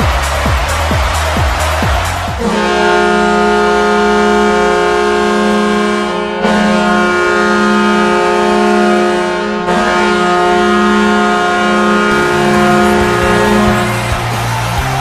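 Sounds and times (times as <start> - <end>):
arena goal horn: 0.0 - 15.0.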